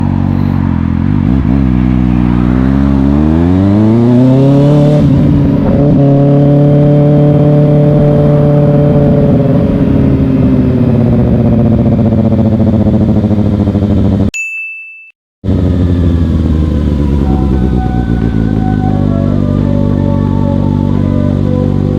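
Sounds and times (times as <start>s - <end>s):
motorcycle engine accelerating: 0.0s - 14.3s, 15.4s - 21.9s.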